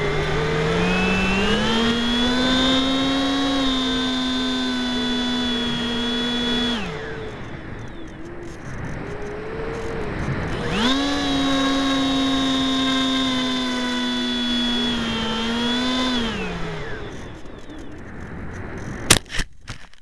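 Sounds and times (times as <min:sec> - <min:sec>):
electric motor and propeller whine: 0:00.0 - 0:19.1
wind rushing over microphone: 0:00.0 - 0:19.1.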